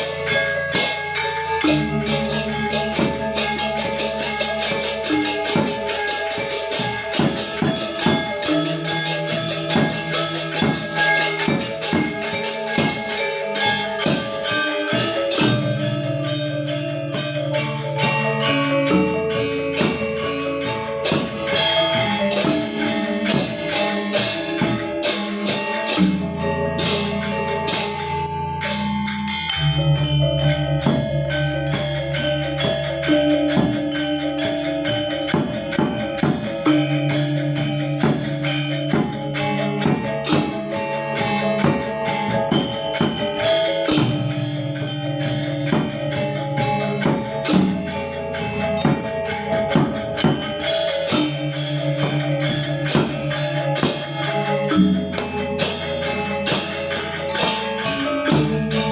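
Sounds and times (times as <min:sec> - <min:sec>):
bright jangling layer: 0:00.0 - 0:58.9
metallophones struck in dense strokes: 0:00.0 - 0:58.9.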